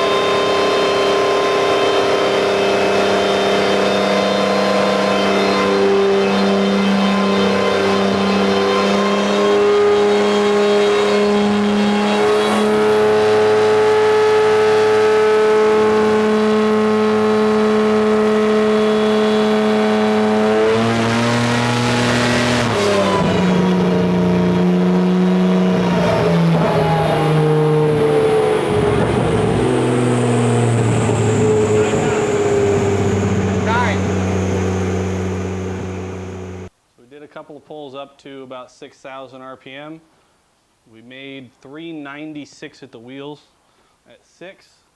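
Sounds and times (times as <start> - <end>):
car engine running on dyno: 0.0 - 36.7.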